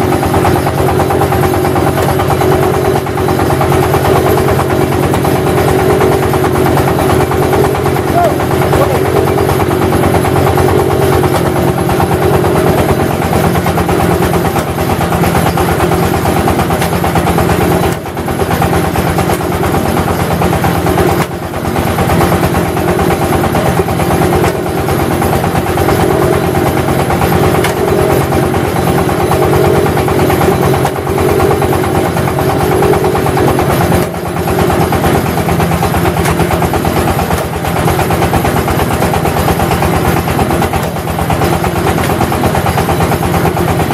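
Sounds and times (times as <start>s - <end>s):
brick press engine running: 0.0s - 43.9s.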